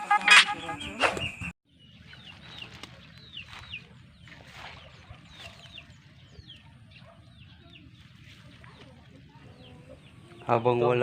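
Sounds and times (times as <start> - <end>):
chickens chirping: 0.0 - 11.0.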